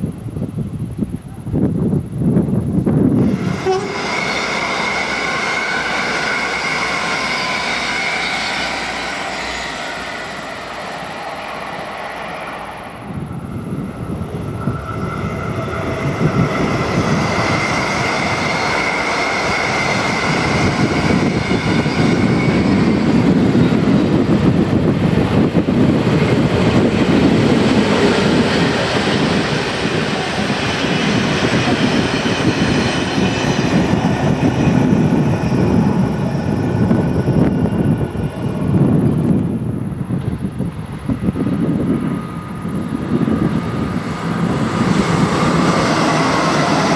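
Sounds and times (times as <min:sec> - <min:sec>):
train passing close by: 0:00.0 - 0:46.9.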